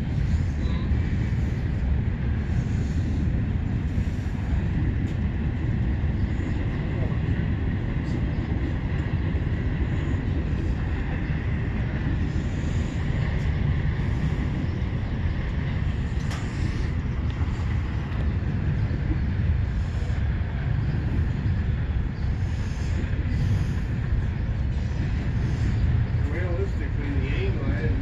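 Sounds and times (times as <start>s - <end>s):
freight train rumbling on rails: 0.0s - 28.0s.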